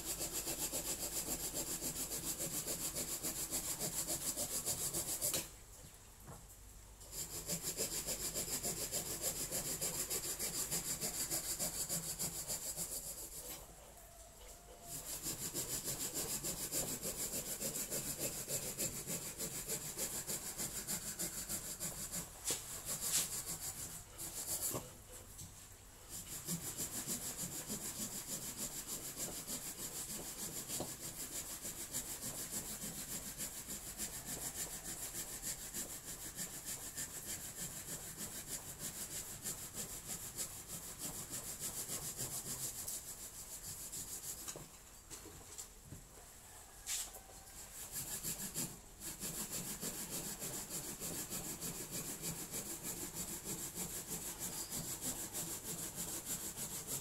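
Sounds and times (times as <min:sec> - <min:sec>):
hand saw cutting branch: 0:00.0 - 0:05.5, 0:07.1 - 0:13.6, 0:14.8 - 0:24.9, 0:26.1 - 0:44.6, 0:47.6 - 0:57.0.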